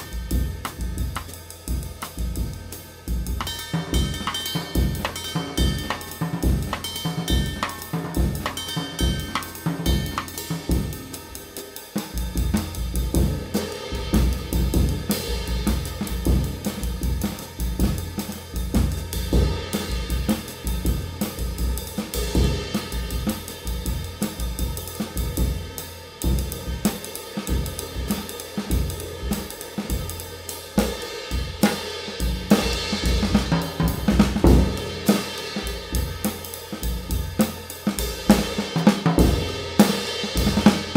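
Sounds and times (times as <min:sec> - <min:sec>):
drum kit steady beat: 0:00.0 - 0:40.9.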